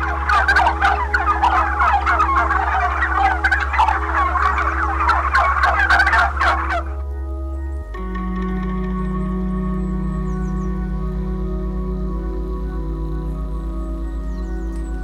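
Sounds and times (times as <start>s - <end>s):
background music tones: 0.0s - 15.0s.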